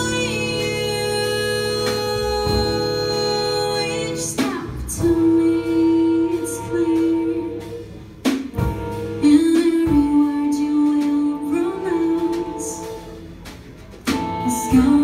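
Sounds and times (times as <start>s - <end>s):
jazz band playing: 0.0s - 15.0s.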